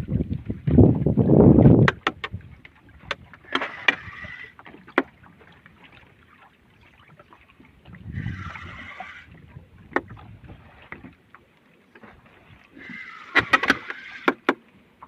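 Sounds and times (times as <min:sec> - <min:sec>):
knocks and clicks on boat: 0:00.0 - 0:06.2, 0:07.0 - 0:15.0
rumble of wind and water: 0:00.0 - 0:15.0.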